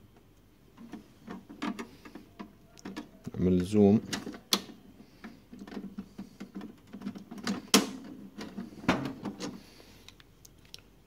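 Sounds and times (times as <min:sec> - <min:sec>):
plastic parts clicking and knocking: 0:00.1 - 0:10.8.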